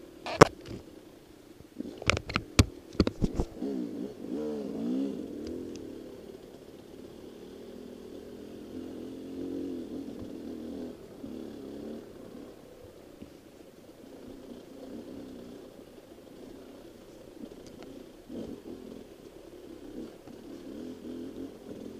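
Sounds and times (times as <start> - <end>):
dirt bike engine revving: 1.8 - 21.9.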